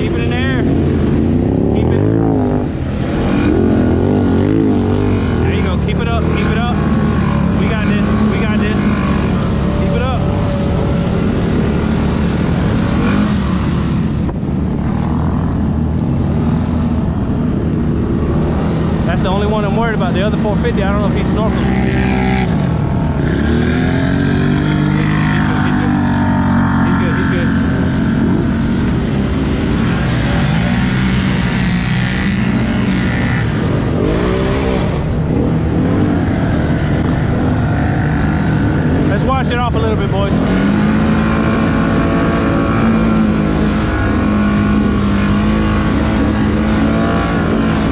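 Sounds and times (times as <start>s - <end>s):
atv engines revving: 0.0s - 47.9s.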